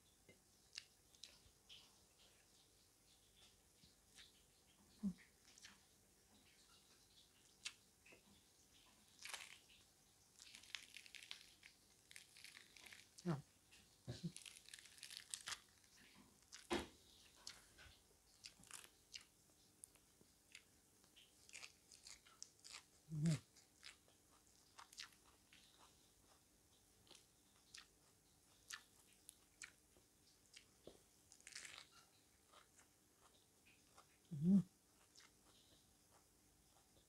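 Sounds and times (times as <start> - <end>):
crunching and chewing: 0.6 - 2.4, 3.2 - 37.0.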